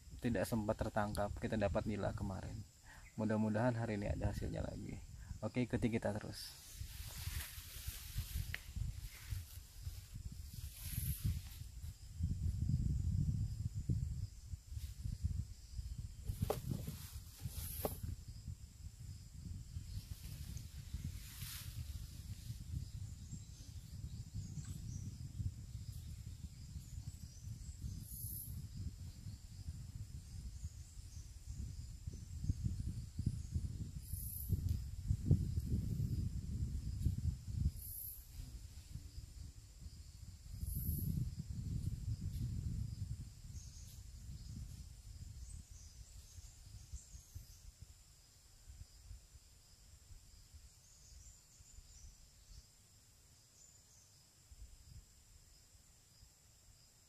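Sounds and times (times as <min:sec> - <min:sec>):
faint insect hum: 0:00.0 - 0:57.0
wind rumble on microphone: 0:00.0 - 0:57.0.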